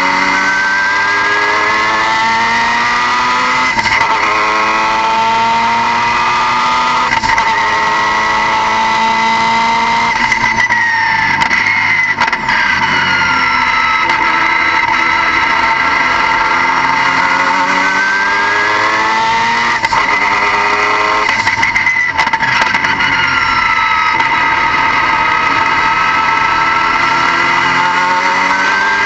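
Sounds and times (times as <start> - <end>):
car engine with high whine: 0.0 - 29.0.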